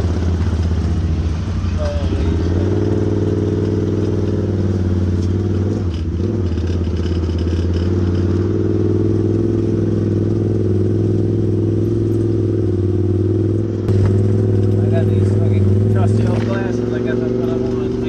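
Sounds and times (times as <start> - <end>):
off-road vehicle engine running: 0.0 - 18.0
vehicle rattling: 0.0 - 18.0.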